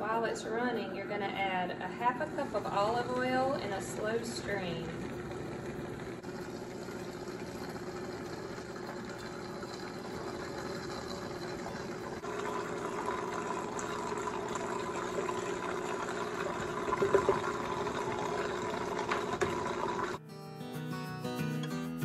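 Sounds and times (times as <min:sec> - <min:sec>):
blender motor hum: 0:02.4 - 0:20.2.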